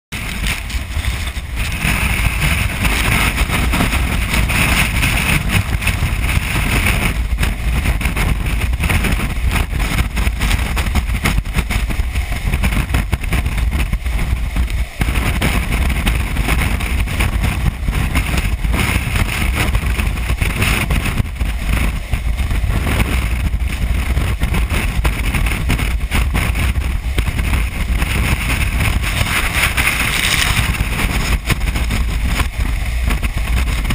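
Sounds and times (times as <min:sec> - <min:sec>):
strong wind buffeting microphone: 0:00.1 - 0:33.9.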